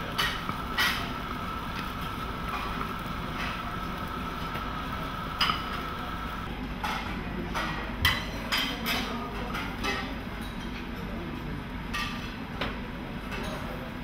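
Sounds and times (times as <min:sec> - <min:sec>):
kitchen background noise: 0:00.0 - 0:14.0.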